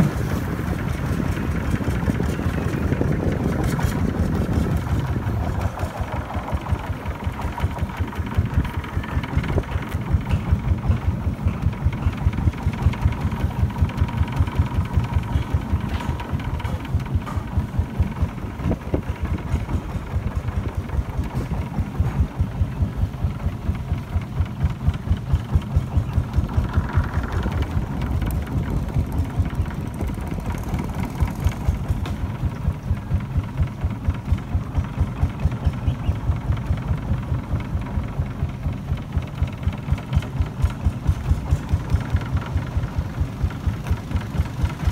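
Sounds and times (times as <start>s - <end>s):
boat engine chugging: 0.0s - 44.9s.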